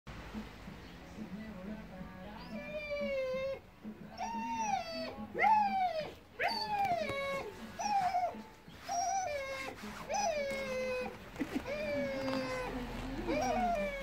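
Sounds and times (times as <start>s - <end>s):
dog whimpering: 2.4s - 14.0s.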